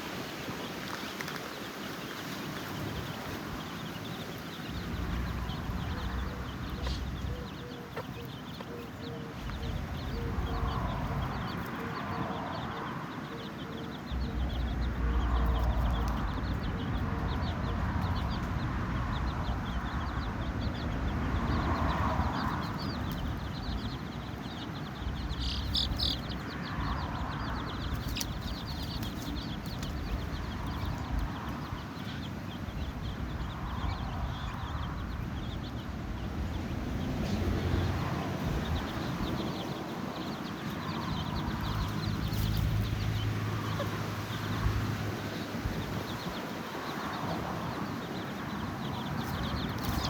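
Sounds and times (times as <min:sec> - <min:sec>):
chicks peeping: 0:00.0 - 0:50.0.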